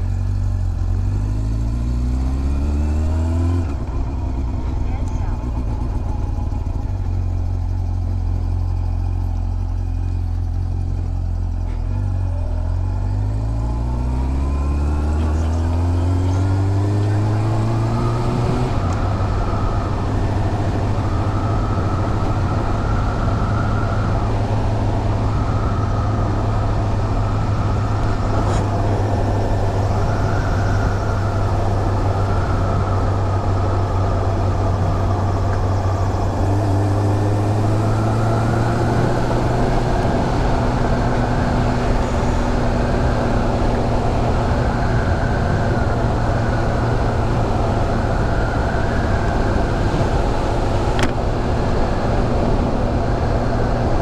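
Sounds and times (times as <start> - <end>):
motorcycle engine cruising: 0.0 - 54.0
wind and road rush: 0.0 - 54.0.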